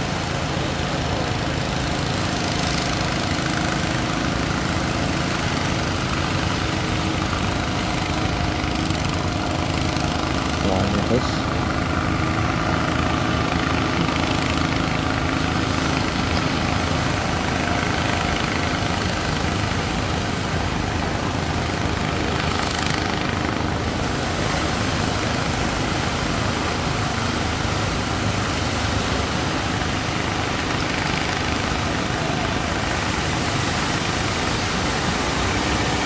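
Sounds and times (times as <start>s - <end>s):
boat engines droning: 0.0s - 36.0s
surf rushing: 0.0s - 36.0s
wind: 0.0s - 36.0s.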